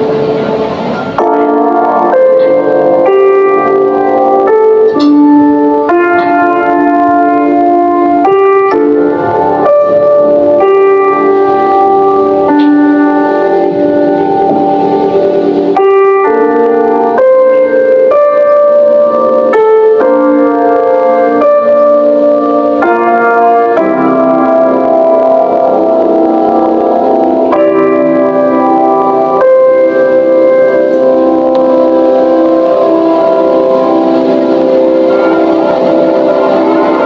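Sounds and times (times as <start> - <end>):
electric piano chords: 0.0 - 37.0.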